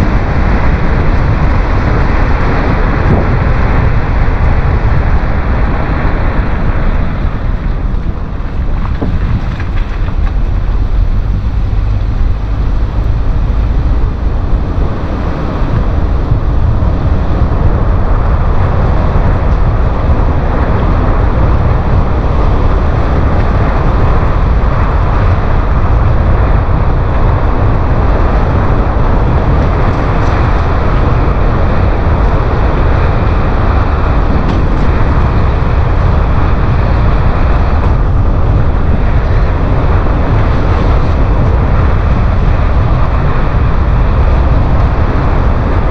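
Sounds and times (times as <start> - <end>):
tyres on wet road: 0.0 - 45.9
wind on microphone: 0.0 - 45.9.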